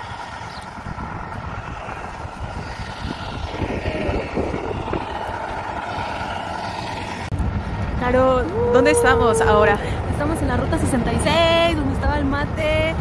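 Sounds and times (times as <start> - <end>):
traffic engine hum: 0.0 - 13.0
wind rumbling on microphone: 0.0 - 13.0.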